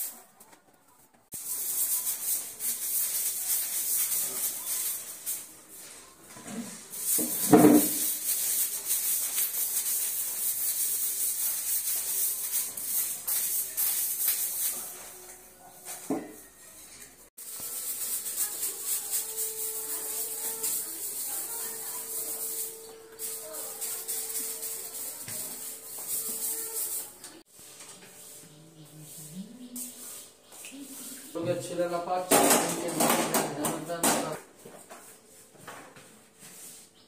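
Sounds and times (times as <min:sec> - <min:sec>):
broom scraping walls: 0:01.4 - 0:15.3, 0:15.9 - 0:34.4.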